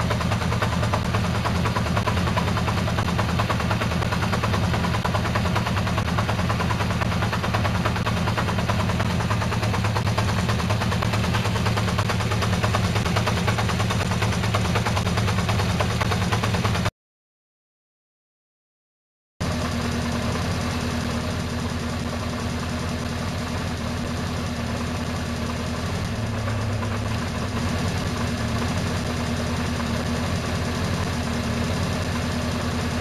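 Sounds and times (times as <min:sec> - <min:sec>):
motorcycle engine idling: 0:00.0 - 0:16.9, 0:19.4 - 0:33.0.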